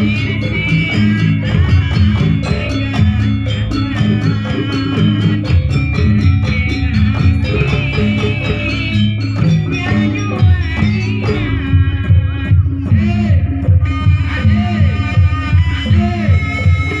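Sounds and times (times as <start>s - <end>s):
melodic instruments playing: 0.0s - 13.7s
steady percussion beat: 0.0s - 17.0s.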